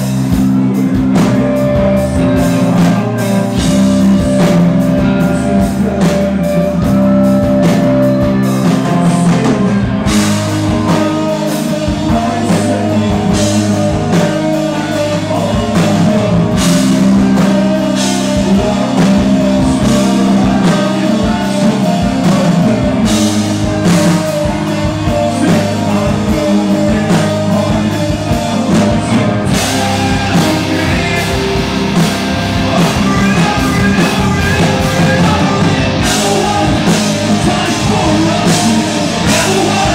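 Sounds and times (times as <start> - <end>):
hard rock band playing: 0.0 - 39.9
person singing: 0.0 - 39.9.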